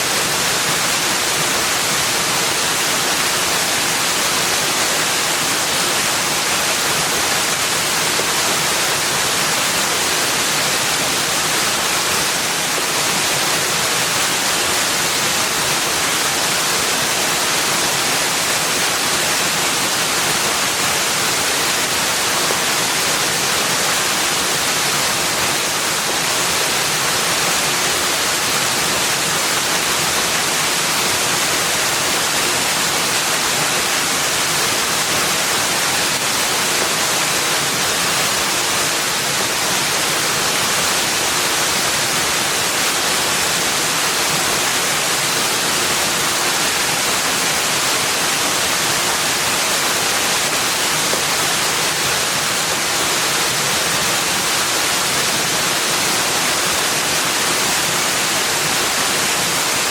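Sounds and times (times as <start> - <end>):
steady hiss of water: 0.0 - 59.9.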